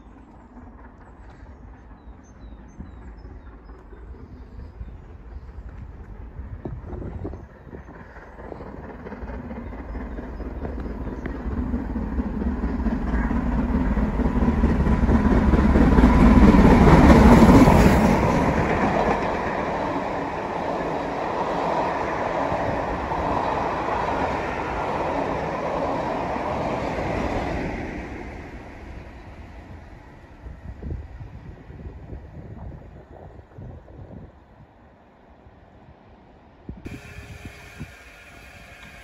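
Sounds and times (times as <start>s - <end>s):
train passing rumble: 0.0s - 39.0s.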